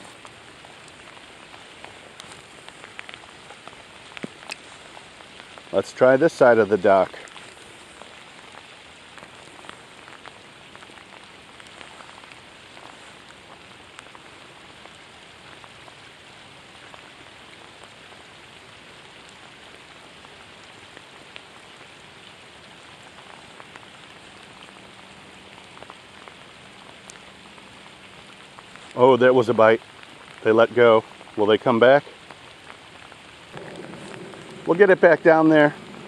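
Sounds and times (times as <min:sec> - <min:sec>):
rain falling on water: 0:00.0 - 0:36.0.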